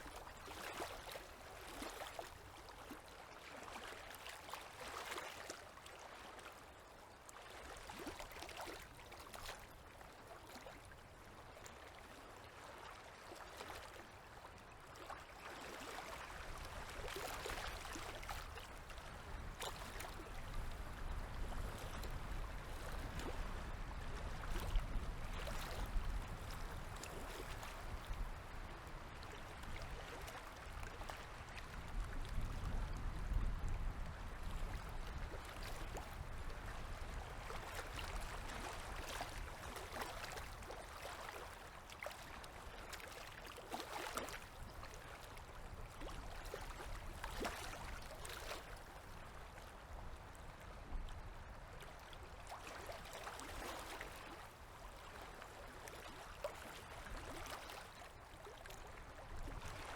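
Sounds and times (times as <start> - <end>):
river waves lapping: 0.0 - 6.5, 7.5 - 32.0, 34.6 - 50.4, 51.8 - 59.9.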